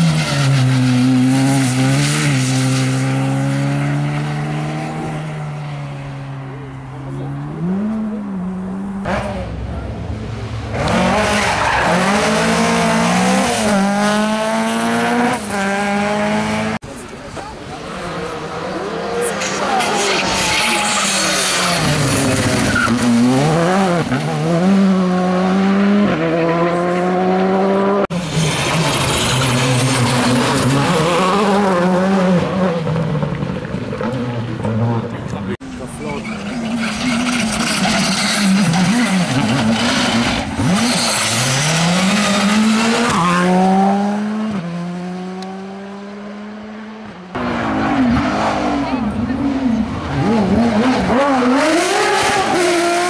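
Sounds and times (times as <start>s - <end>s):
rally car accelerating: 0.0s - 53.0s
rally car engine: 0.0s - 53.0s.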